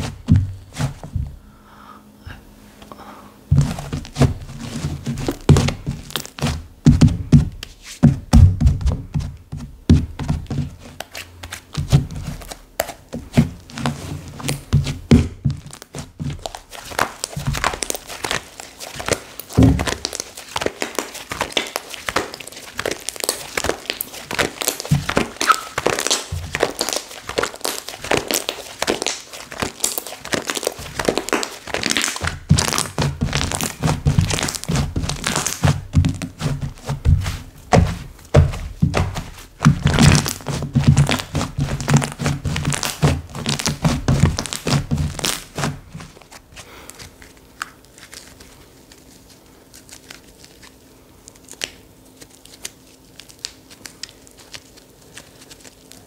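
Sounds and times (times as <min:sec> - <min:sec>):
slime squished by hand: 0:11.0 - 0:56.0.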